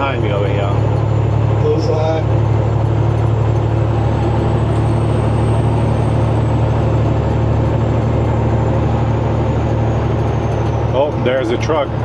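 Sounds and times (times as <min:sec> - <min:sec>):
road noise inside cab: 0:00.0 - 0:12.0
truck diesel engine drone: 0:00.0 - 0:12.0.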